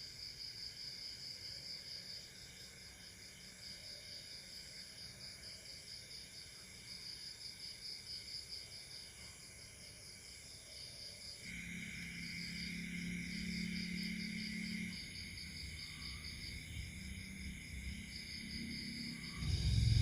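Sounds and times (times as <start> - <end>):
cricket chirping: 0.0 - 20.0
insect buzzing drone: 0.0 - 20.0.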